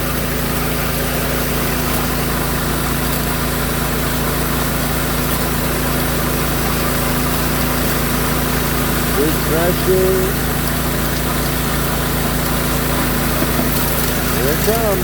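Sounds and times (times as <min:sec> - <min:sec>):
water pump engine humming: 0:00.0 - 0:15.0
water rushing under pressure: 0:00.0 - 0:15.0.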